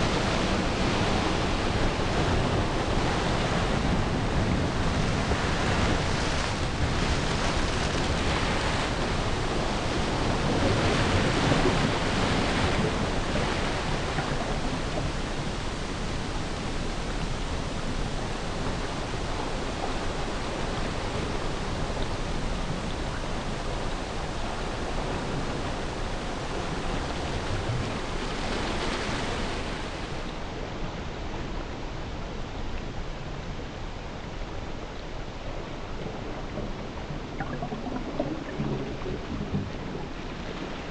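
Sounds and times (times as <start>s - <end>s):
sea water rushing and hissing: 0.0s - 40.9s.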